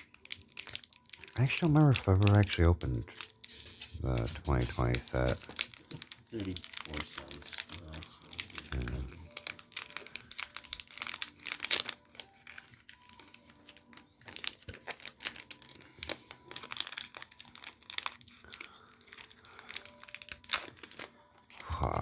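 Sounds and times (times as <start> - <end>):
foil wrapper crinkling: 0.0 - 22.0.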